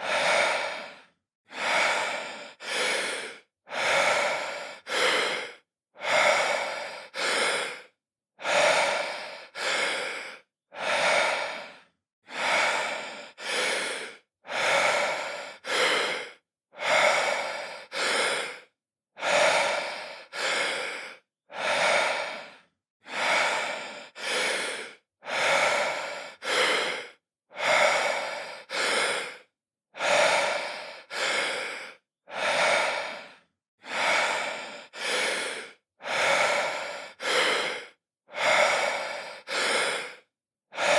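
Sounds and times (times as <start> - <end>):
man breathing deeply: 0.0 - 40.9.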